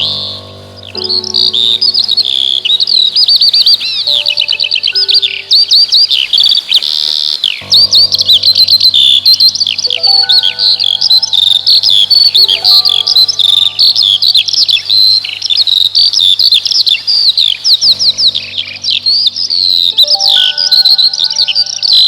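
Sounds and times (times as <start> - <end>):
steady held tones: 0.0 - 6.9, 7.6 - 15.7, 17.8 - 22.0
small birds chirping: 0.0 - 22.0.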